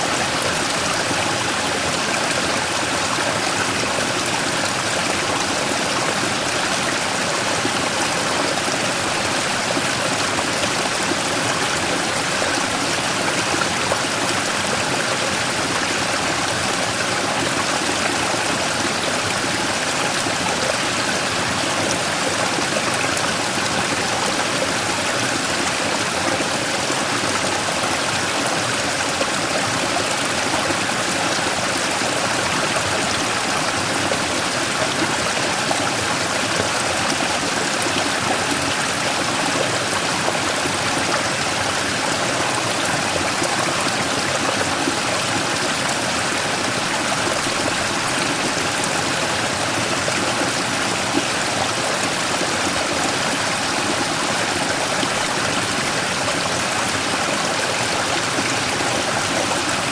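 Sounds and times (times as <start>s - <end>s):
stream rushing over rock: 0.0s - 59.9s.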